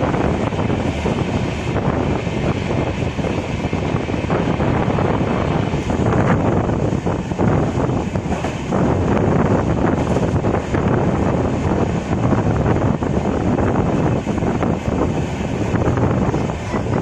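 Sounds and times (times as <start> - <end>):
train wheels on track: 0.0 - 17.0
wind buffeting microphone: 0.0 - 17.0.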